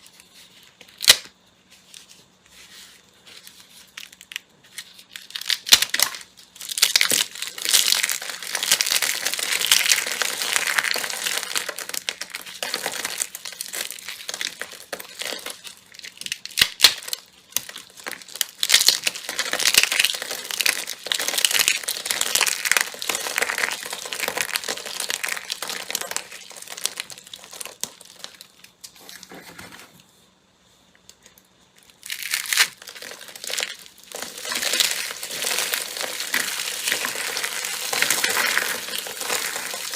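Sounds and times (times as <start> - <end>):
slime crackling and popping: 4.0 - 28.8, 31.8 - 39.9.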